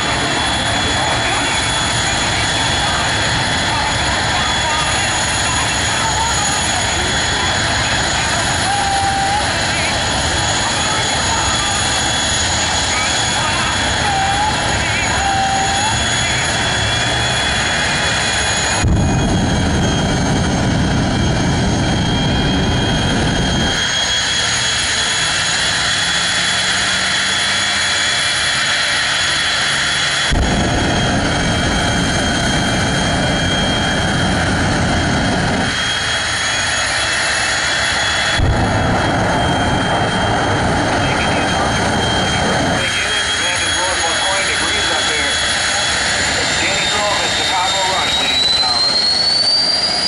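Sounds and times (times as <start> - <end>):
deep engine roar: 0.0 - 50.0
turbine engine high whine: 0.0 - 50.0.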